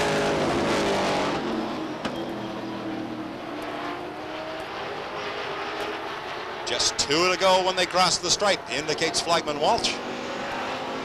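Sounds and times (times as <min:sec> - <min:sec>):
drone of distant race cars: 0:00.0 - 0:11.0
stock cars racing past: 0:00.0 - 0:11.0.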